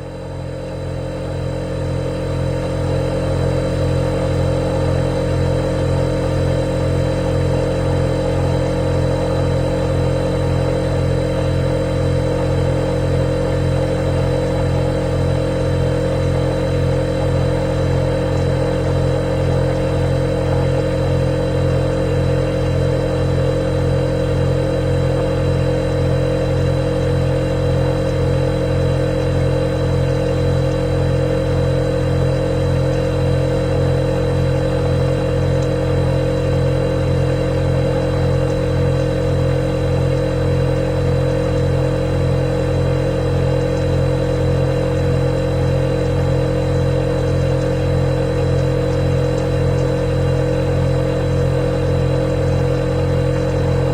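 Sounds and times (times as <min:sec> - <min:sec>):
refrigerator humming: 0:00.0 - 0:53.9.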